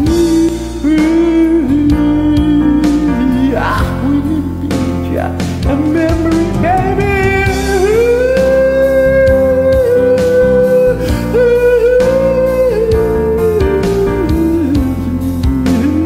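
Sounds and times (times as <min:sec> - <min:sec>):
ballad backing track: 0:00.0 - 0:16.0
person singing wordless melody: 0:00.0 - 0:16.0.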